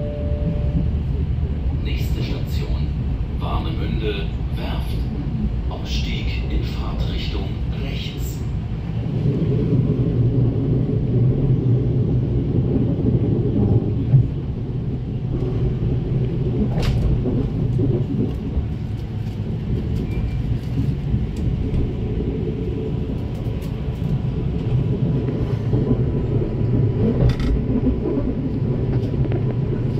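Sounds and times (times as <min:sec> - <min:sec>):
train rumbling on track: 0:00.0 - 0:29.9.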